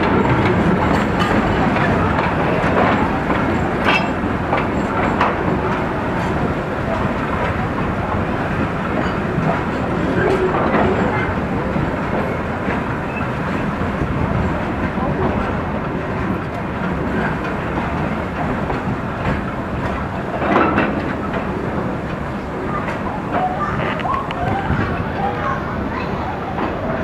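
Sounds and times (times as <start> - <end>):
wheels clattering over rail joints: 0.0 - 25.4
train rumble: 0.0 - 27.0.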